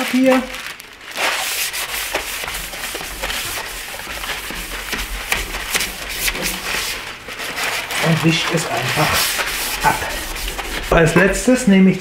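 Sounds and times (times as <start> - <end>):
newspaper crumpling: 0.0 - 11.7.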